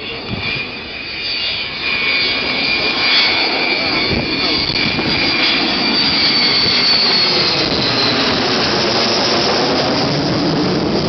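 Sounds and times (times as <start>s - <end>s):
high jet whistling: 0.0s - 10.7s
jet bomber flying low overhead: 0.0s - 11.0s.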